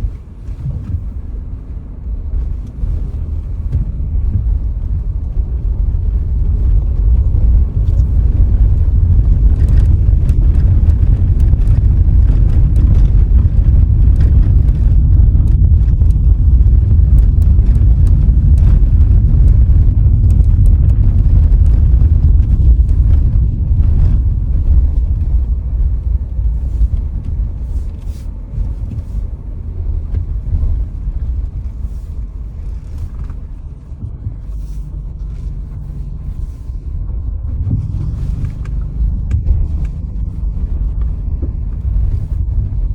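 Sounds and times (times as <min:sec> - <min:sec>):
car road and wind rumble: 0:00.0 - 0:42.9.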